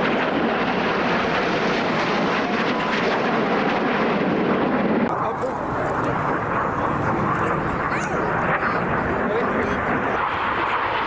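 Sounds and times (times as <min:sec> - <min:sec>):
airplane engine flying past: 0:00.0 - 0:11.0.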